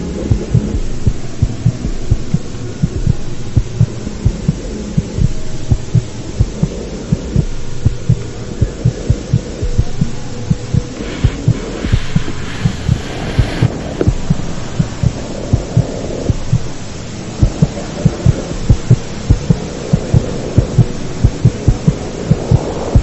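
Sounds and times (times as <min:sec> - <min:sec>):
heartbeat thumps: 0:00.0 - 0:23.0
steady low hum: 0:00.0 - 0:23.0.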